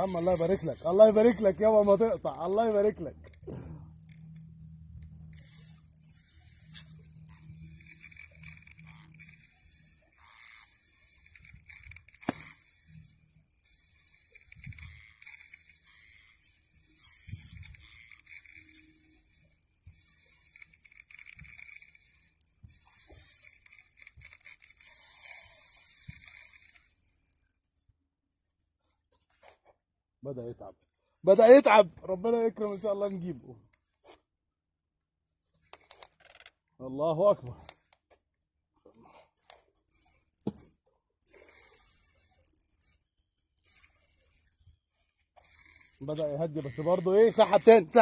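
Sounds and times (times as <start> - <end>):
fishing reel drag buzzing: 0.0 - 27.7, 31.3 - 33.7, 35.6 - 36.5, 39.0 - 48.0.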